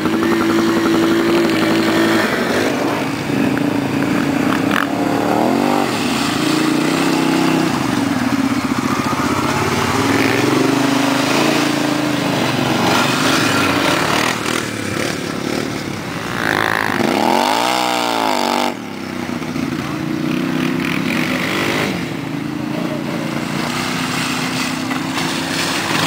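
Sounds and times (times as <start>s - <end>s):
quad bike engines revving: 0.0s - 26.0s.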